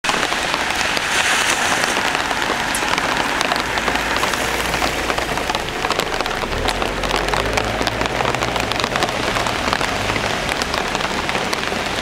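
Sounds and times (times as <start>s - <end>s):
steady rain falling: 0.0s - 12.0s
raindrops ticking on a surface: 0.1s - 12.0s.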